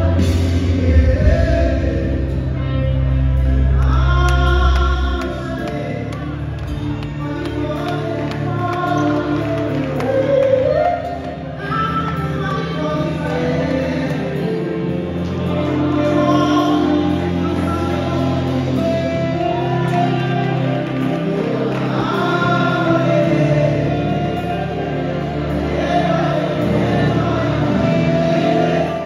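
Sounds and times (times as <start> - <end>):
backing singers: 0.0 - 29.0
keyboard accompaniment: 0.0 - 29.0.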